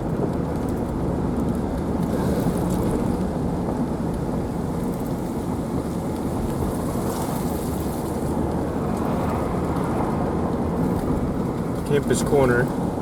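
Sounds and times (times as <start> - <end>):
car driving low rumble: 0.0 - 13.0
wind: 0.0 - 13.0.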